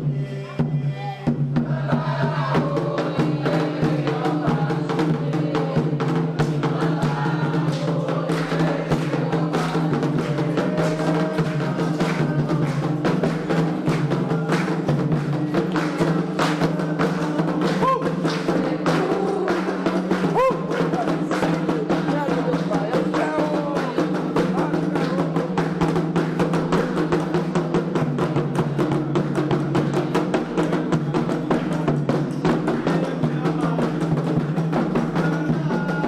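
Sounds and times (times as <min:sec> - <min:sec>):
hand drums playing fast rhythm: 0:00.0 - 0:36.0.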